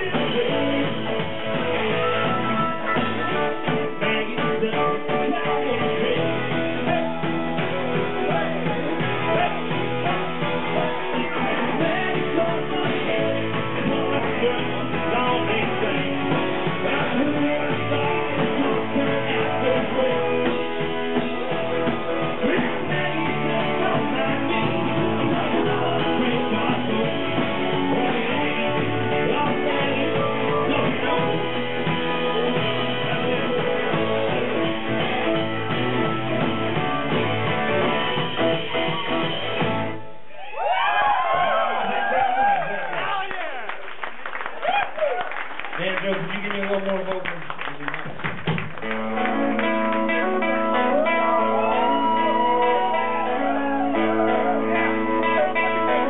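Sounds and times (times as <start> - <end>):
electric guitars strummed: 0.0 - 40.3, 48.2 - 56.0
drums: 0.0 - 56.0.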